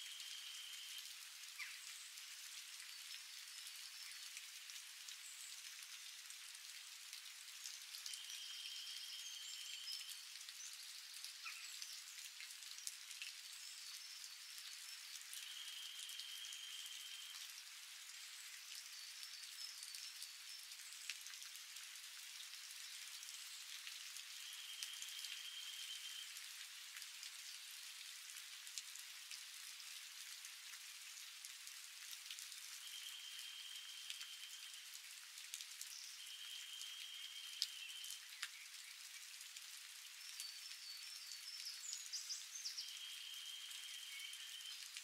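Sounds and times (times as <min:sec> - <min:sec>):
light rain falling: 0:00.0 - 0:45.0.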